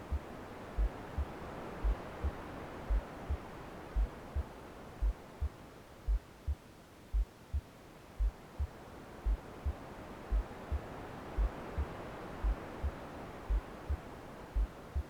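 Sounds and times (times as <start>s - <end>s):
low white noise hiss: 0.0s - 15.0s
muffled heartbeat: 0.1s - 15.0s.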